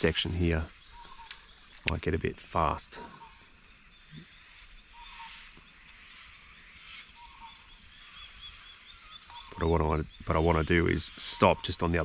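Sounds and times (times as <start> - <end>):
rapid high wildlife chirps: 0.0 - 12.0.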